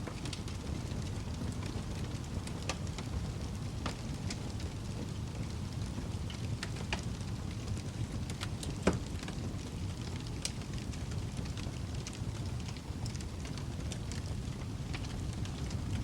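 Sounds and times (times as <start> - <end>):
fire burning with low rumble: 0.0 - 16.0
fire crackles and pops: 0.0 - 16.0.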